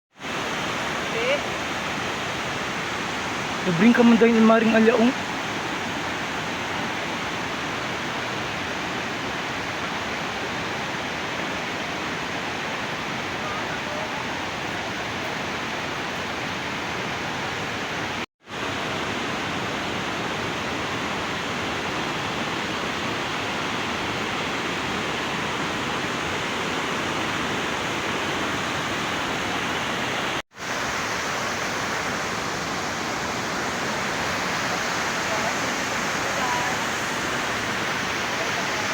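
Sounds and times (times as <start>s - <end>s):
river water rushing: 0.2s - 38.9s.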